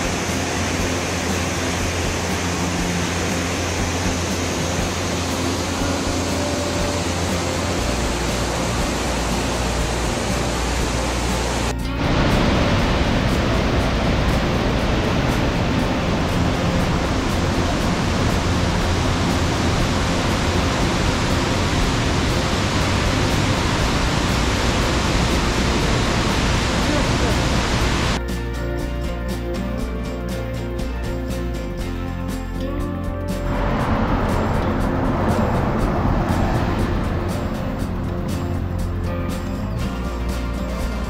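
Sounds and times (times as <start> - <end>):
waterfall rushing: 0.0 - 28.2, 33.3 - 41.0.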